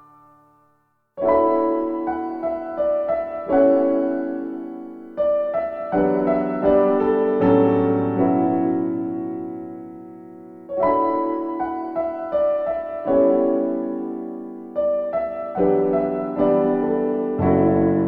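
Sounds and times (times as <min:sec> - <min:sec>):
slow piano piece: 0:00.0 - 0:18.0.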